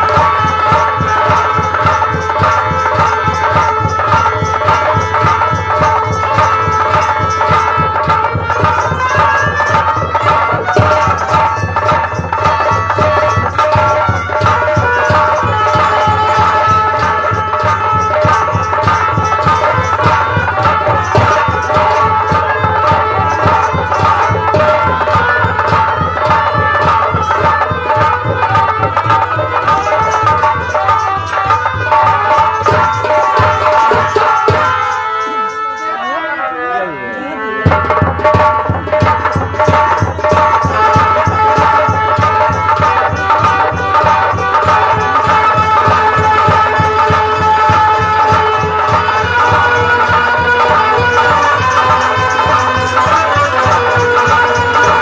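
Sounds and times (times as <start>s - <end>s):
fast folk drumbeat: 0.0s - 36.2s, 37.4s - 55.0s
droning harmonium melody: 0.0s - 55.0s
fast dholak beats: 0.0s - 55.0s
stage-band music: 0.0s - 55.0s.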